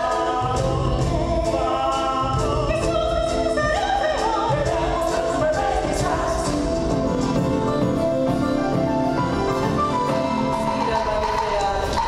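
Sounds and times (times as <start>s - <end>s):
group singing: 0.0s - 8.1s, 9.4s - 12.0s
instrumental accompaniment: 0.0s - 12.0s.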